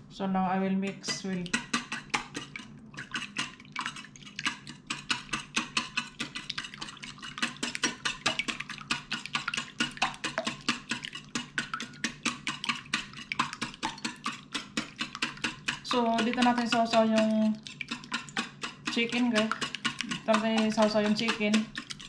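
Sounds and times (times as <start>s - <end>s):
whisk clinking against bowl: 0.9s - 22.0s.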